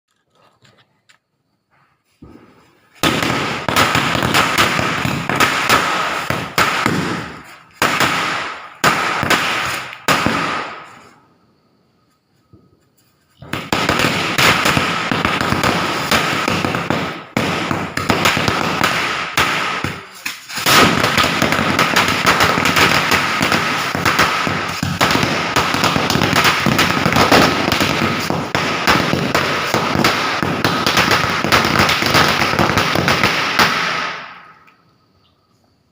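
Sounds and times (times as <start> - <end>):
firecrackers crackling: 2.2 - 11.2, 12.8 - 34.7.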